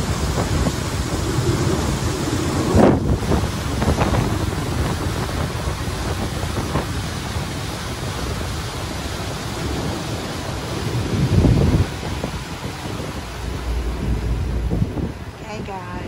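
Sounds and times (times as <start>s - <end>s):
water rushing along boat hull: 0.0s - 16.0s
wind buffeting microphone: 0.0s - 16.0s.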